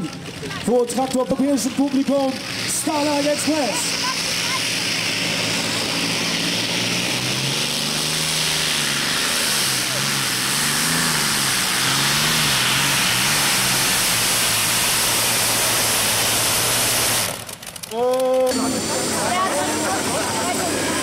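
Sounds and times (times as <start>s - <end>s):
tractor engine roaring: 0.0s - 21.0s.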